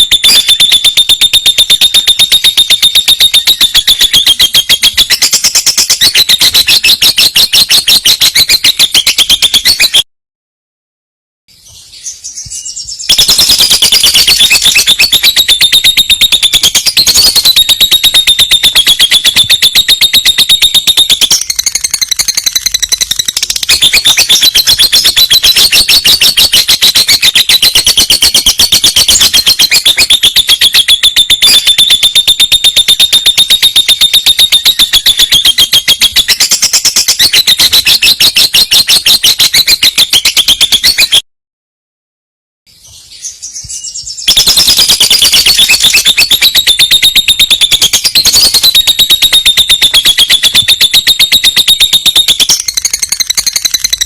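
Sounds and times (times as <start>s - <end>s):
lovebird high-pitched trill: 0.0s - 10.0s, 11.6s - 41.2s, 42.8s - 54.0s.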